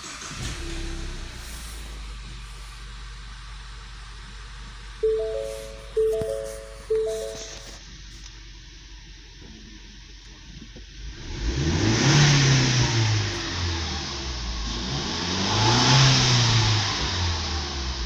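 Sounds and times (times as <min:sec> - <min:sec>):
car engine idling and revving: 0:00.0 - 0:05.1, 0:07.8 - 0:18.0.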